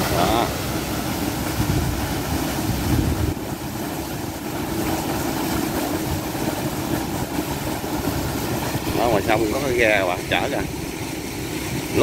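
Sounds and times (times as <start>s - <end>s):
pump hum: 0.0s - 12.0s
water jet crashing and churning: 0.0s - 12.0s.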